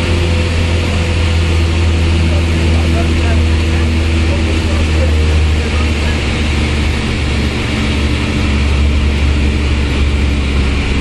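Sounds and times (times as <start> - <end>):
bus engine droning: 0.0 - 11.0
road noise: 0.0 - 11.0.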